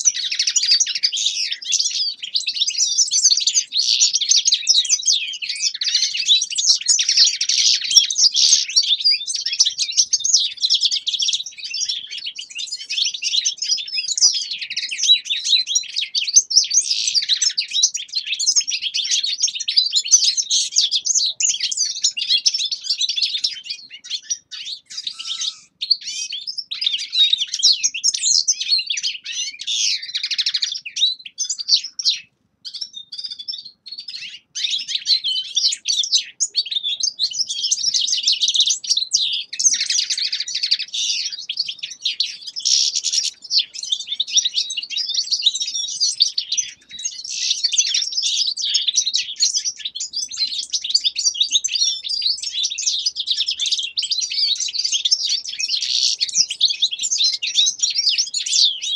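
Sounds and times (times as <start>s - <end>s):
finches twittering: 0.0s - 58.9s.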